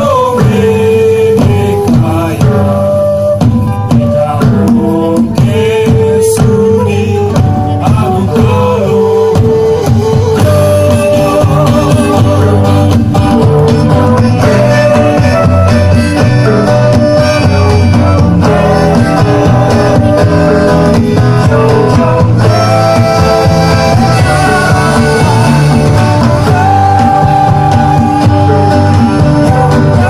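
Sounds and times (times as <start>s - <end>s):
bass line: 0.0s - 30.0s
guitar: 0.0s - 30.0s
person singing: 0.0s - 30.0s.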